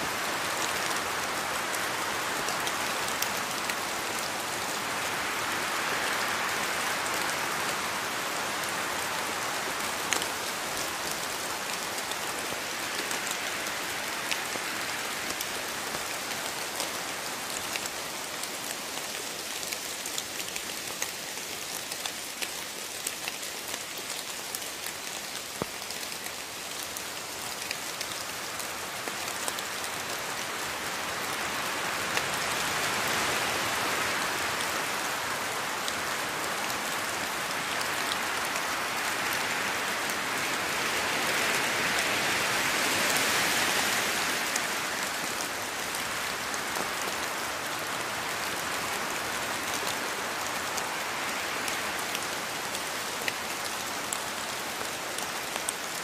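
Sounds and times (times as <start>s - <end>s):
rain falling in forest: 0.0s - 56.0s
raindrops striking close by: 0.0s - 56.0s.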